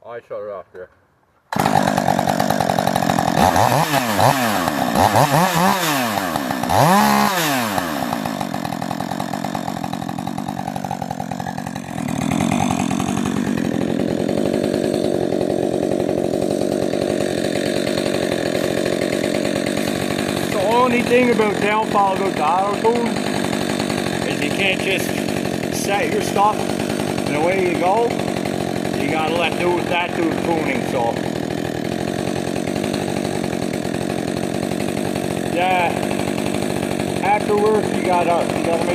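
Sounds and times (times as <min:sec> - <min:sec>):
chainsaw engine revving and idling: 0:01.5 - 0:38.9.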